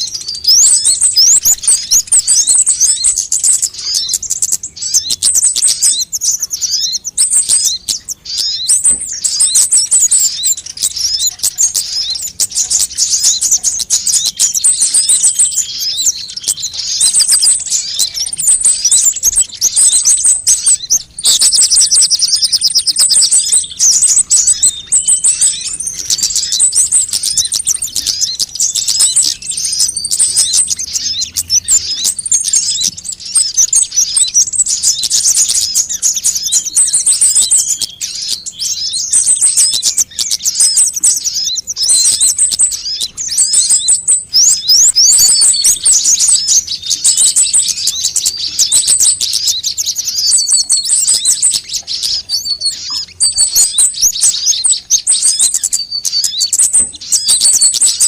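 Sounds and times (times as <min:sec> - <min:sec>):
sunbirds chirping and trilling: 0:00.0 - 0:58.0.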